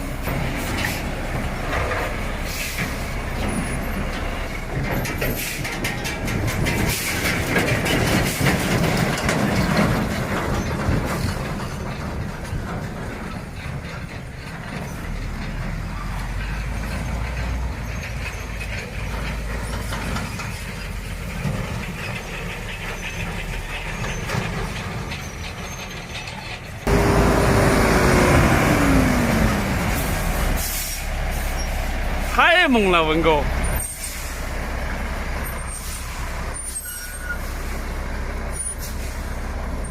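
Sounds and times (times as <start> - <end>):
heavy truck running: 0.0 - 39.9.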